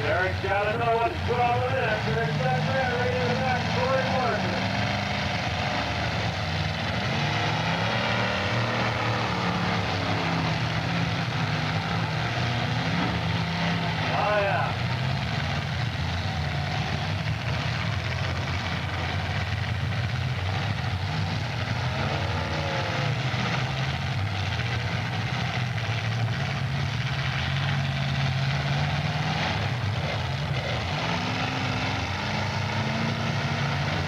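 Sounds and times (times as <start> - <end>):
car engines droning and revving: 0.0 - 34.0.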